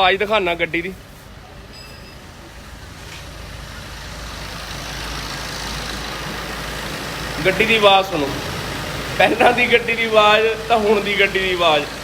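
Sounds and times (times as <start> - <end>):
diesel car engine idling: 0.0 - 12.0.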